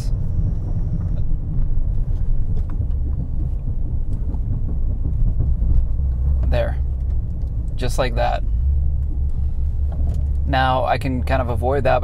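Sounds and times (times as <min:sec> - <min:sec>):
car engine rumbling unevenly: 0:00.0 - 0:12.0.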